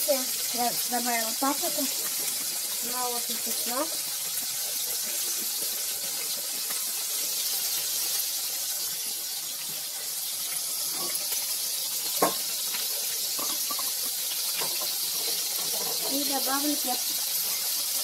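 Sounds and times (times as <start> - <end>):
chicken frying in oil: 0.0 - 18.0.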